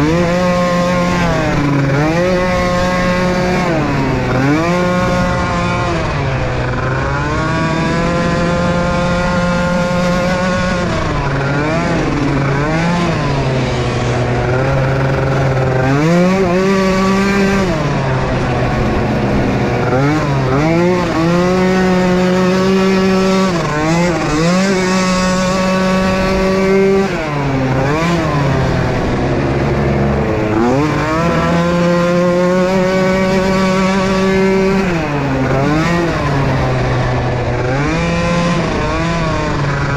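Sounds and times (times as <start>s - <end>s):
small atv engines revving: 0.0s - 39.9s.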